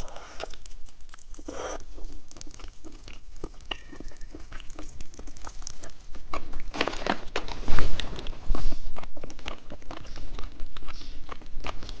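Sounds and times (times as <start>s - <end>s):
candy crunching: 0.0s - 12.0s.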